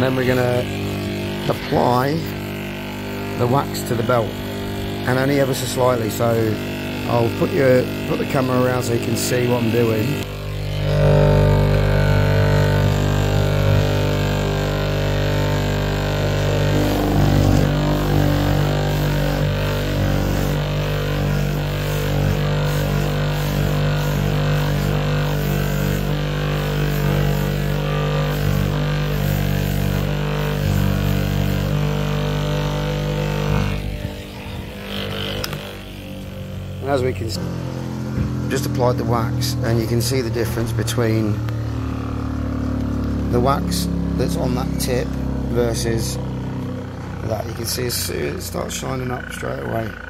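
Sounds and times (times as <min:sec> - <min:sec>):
bench grinder humming: 0:00.0 - 0:50.0.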